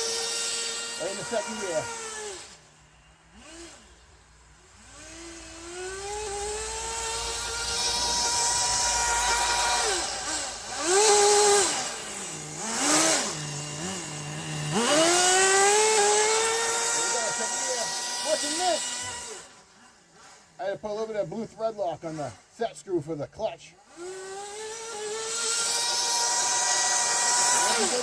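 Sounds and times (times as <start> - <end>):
nitro engine revving: 0.0 - 2.6, 3.3 - 22.6, 23.8 - 28.0.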